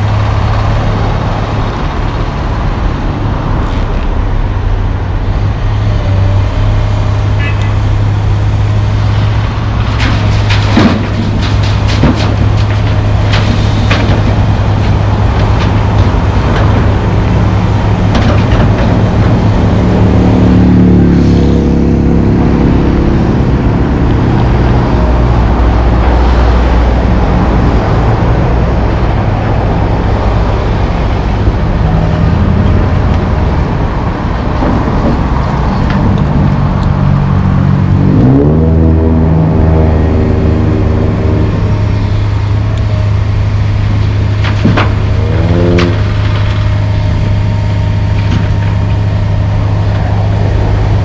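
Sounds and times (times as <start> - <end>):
excavator diesel engine under load: 0.0 - 51.0.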